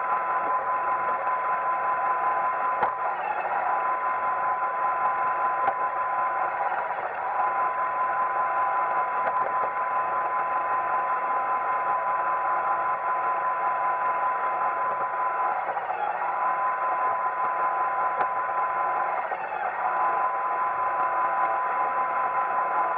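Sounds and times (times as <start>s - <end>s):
robot vacuum motor whine: 0.0s - 22.9s.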